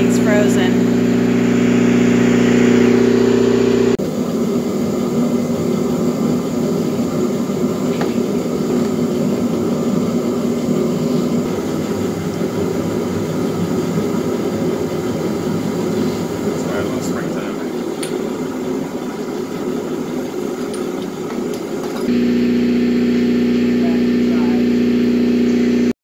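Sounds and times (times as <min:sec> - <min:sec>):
concrete cutter engine running: 0:00.0 - 0:25.9.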